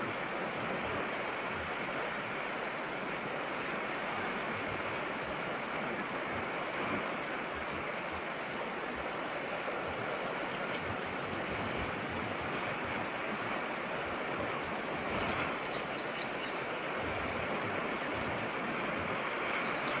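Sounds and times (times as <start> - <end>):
surf: 0.0 - 20.0
wind: 0.0 - 20.0.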